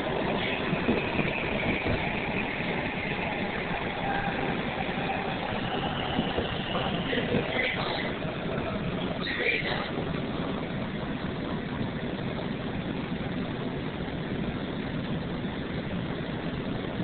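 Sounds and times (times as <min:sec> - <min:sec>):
faint train whine: 0:00.0 - 0:17.0
train wheels and motors rumbling: 0:00.0 - 0:17.0.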